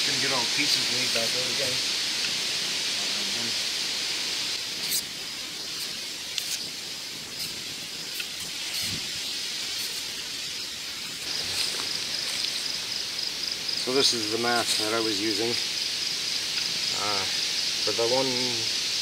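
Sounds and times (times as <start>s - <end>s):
insects chirping: 0.0s - 19.0s
steady outdoor hiss: 0.0s - 19.0s.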